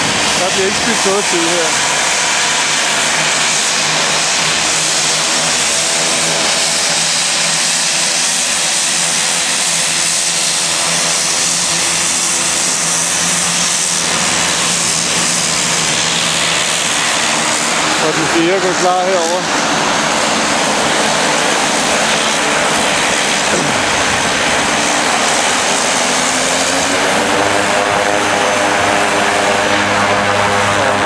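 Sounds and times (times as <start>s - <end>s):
turboprop airplane taxiing: 0.0s - 31.0s.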